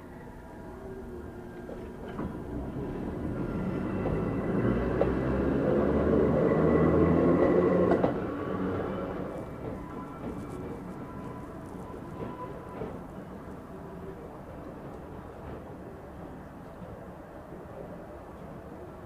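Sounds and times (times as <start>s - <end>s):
train rail noise: 0.0s - 19.0s.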